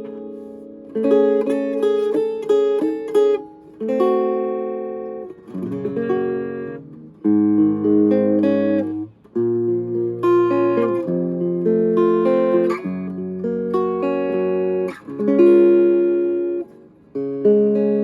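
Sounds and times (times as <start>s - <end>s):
clean electric guitar: 0.0s - 18.0s.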